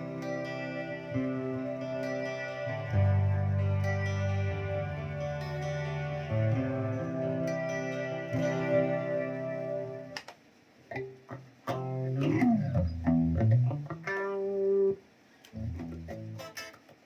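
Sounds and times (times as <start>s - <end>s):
electric guitar playing: 0.0s - 10.2s, 10.9s - 17.0s.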